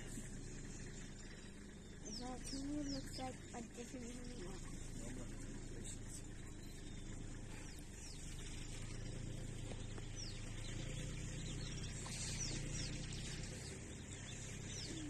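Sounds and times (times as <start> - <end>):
birds chirping: 0.0 - 15.0
low steady rumble: 0.0 - 15.0.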